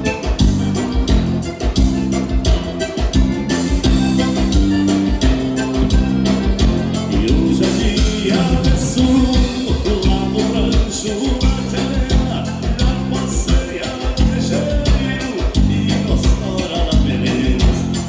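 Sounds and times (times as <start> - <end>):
accordion chords: 0.0 - 18.0
drum beat: 0.0 - 18.0
person singing: 2.4 - 18.0.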